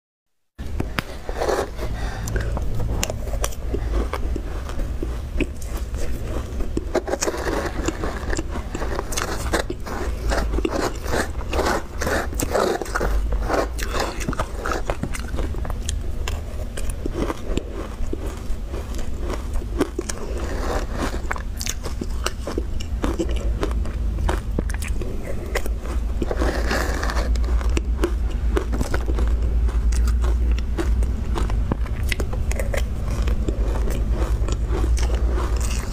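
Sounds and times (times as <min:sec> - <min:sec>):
chewing crunchy ice: 0:00.6 - 0:35.9.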